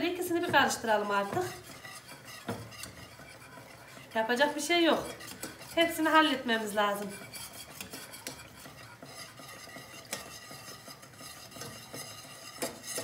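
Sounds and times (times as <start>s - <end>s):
spoon stirring in pot: 0.0s - 13.0s.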